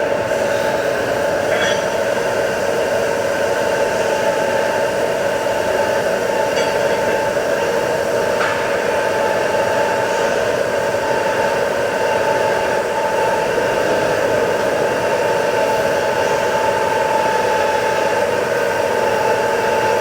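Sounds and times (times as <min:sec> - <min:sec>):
machine hiss: 0:00.0 - 0:20.0
machine whine: 0:00.0 - 0:20.0.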